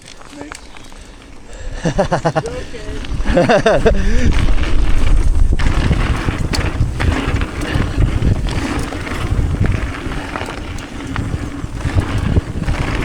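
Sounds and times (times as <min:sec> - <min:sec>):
bike clicks and rattles: 0:00.0 - 0:13.0
bike tyre rumble on dirt: 0:00.0 - 0:13.0
wind buffeting microphone: 0:00.2 - 0:13.0.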